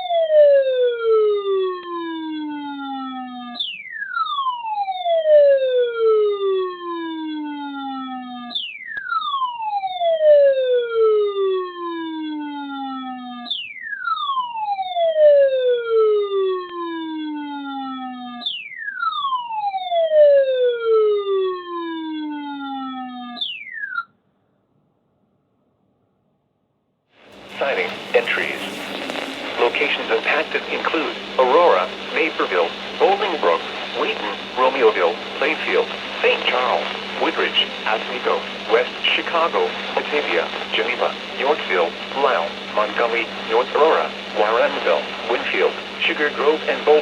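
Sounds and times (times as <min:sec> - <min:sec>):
electronic siren tone: 0:00.0 - 0:24.1, 0:27.3 - 0:47.0.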